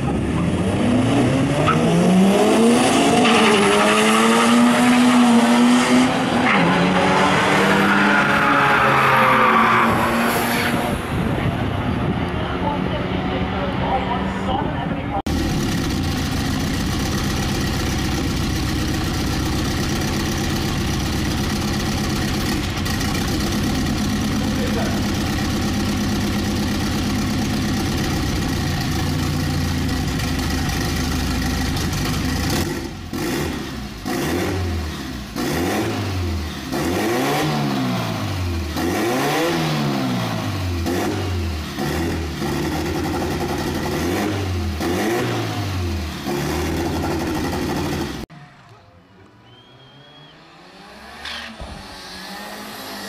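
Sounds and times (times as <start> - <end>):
car engine idling and revving: 0.0 - 48.5, 49.5 - 53.0.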